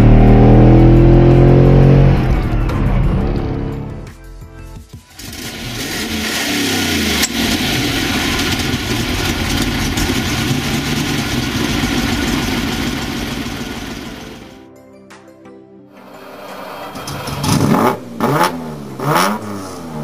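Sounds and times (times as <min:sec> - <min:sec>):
car engine starting and revving: 0:00.0 - 0:04.0, 0:05.1 - 0:14.5, 0:16.0 - 0:20.0.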